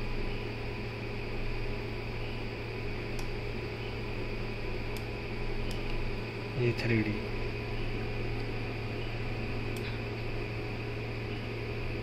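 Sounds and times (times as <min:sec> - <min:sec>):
electrical hum: 0:00.0 - 0:12.0
fan noise: 0:00.0 - 0:12.0.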